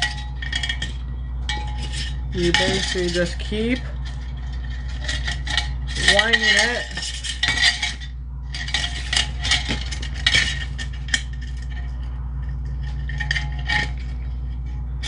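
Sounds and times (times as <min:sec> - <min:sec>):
spring scraping in metal housing: 0:00.0 - 0:15.0
steady low hum: 0:00.0 - 0:15.0.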